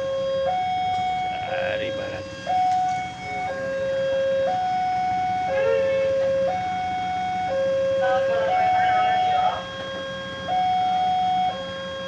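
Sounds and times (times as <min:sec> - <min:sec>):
level crossing two-tone alarm: 0:00.0 - 0:12.0.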